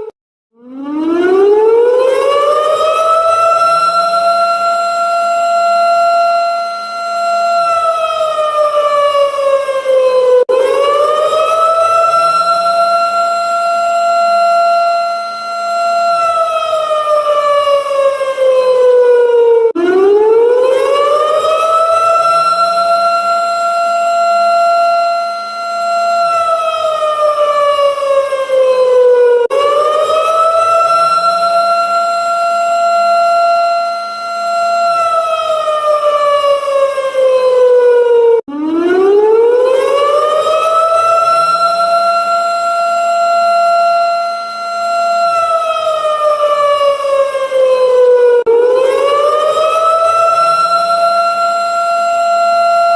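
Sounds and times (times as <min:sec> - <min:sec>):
warning siren wailing: 0:00.0 - 0:52.9.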